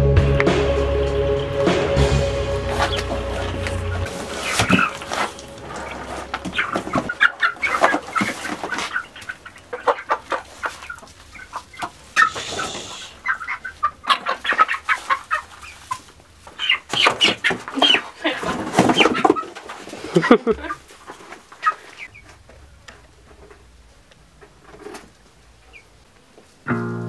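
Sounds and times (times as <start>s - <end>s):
chickens clucking: 0.4s - 26.6s.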